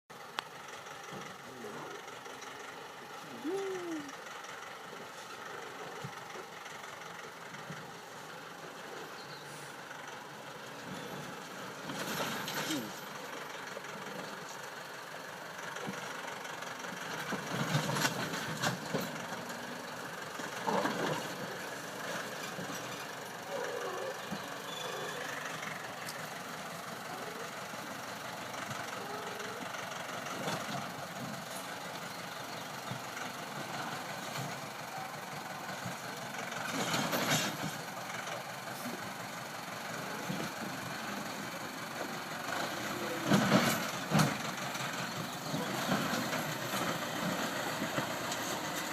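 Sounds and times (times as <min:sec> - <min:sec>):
tractor jolting and clattering: 0:00.1 - 0:03.4, 0:04.1 - 0:48.9
tractor engine running: 0:00.1 - 0:48.9.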